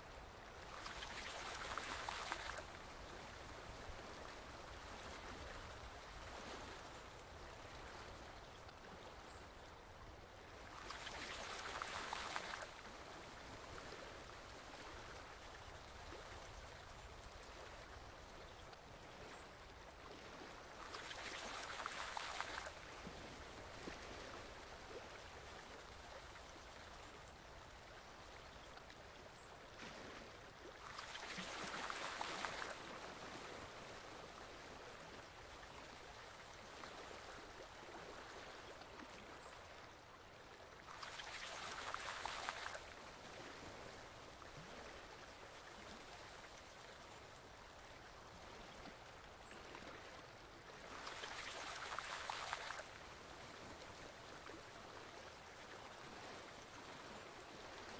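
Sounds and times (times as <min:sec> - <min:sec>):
small stream flowing: 0:00.0 - 0:57.9.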